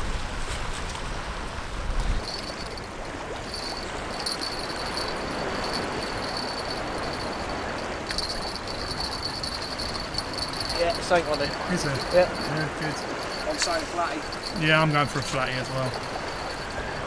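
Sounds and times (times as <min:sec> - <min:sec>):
sea water washing against wall: 0:00.0 - 0:17.0
wind rumbling on microphone: 0:00.0 - 0:17.0.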